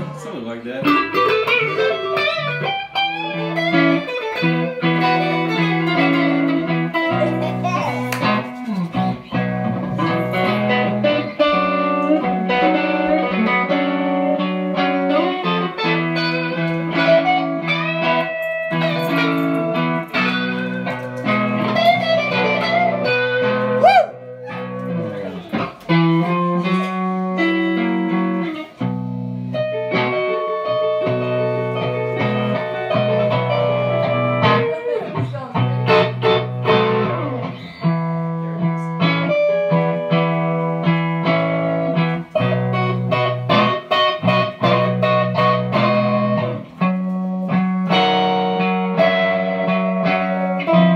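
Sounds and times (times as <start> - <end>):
electric guitar through amplifier: 0.0 - 50.9.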